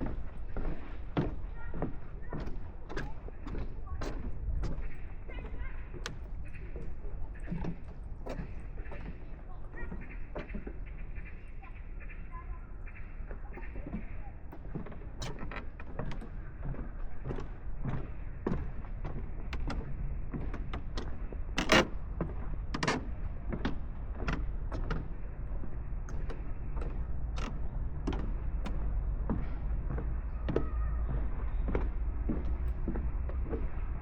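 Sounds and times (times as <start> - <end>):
footsteps on a path: 0.0 - 34.0.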